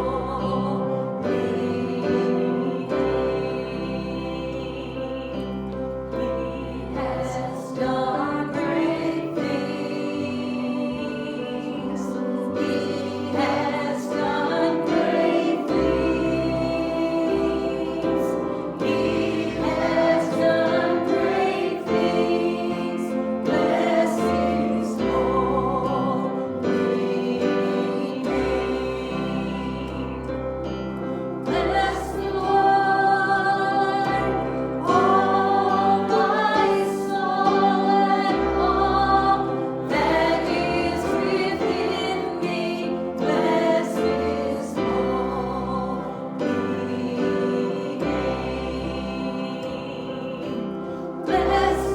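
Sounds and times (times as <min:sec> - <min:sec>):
group singing worship music: 0:00.0 - 0:51.9
instrumental accompaniment: 0:00.0 - 0:51.9.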